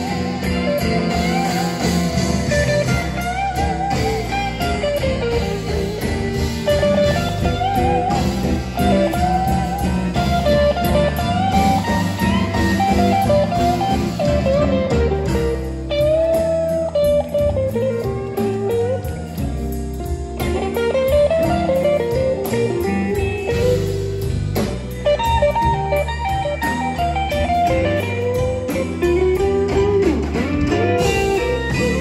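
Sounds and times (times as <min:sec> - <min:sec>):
blues band playing: 0:00.0 - 0:32.0
drum kit cymbals: 0:00.0 - 0:32.0
electric guitar lead with bent notes: 0:00.0 - 0:32.0.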